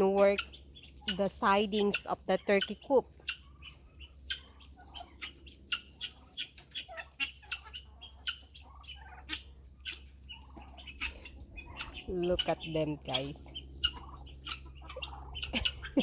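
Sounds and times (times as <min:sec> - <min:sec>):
turkeys clucking and peeping: 0:00.0 - 0:16.0
short turkey calls: 0:02.6 - 0:16.0.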